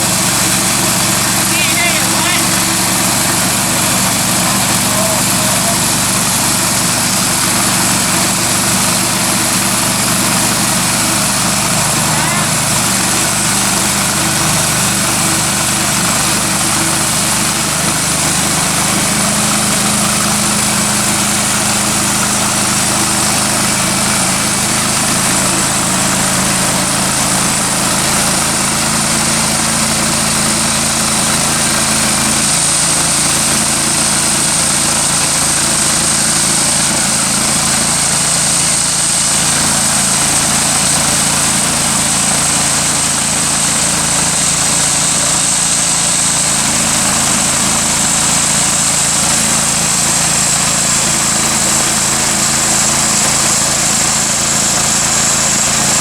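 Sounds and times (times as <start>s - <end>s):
band blade sawing log: 0.0s - 56.0s
small gas engine running: 0.0s - 56.0s.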